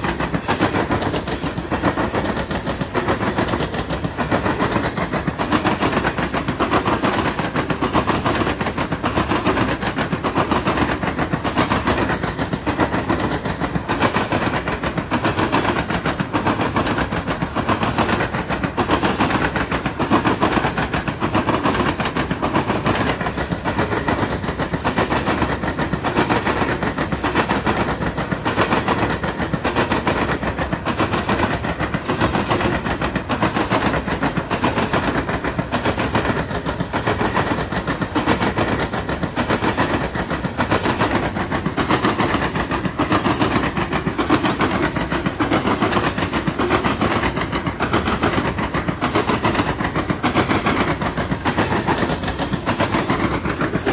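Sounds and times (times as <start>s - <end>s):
train wheels clattering on rails: 0.0s - 53.9s.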